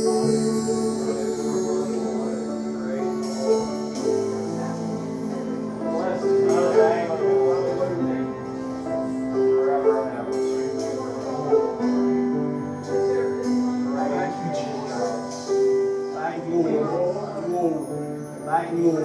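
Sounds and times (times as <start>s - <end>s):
church worship keyboard chords: 0.0s - 19.0s.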